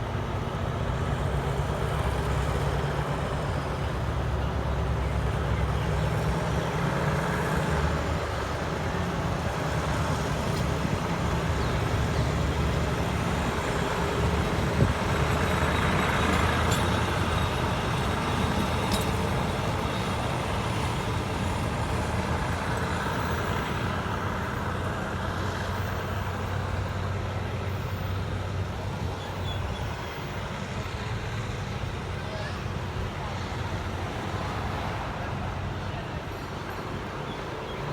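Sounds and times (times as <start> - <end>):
diesel train engine drone: 0.0 - 37.9
train running rumble: 0.0 - 37.9.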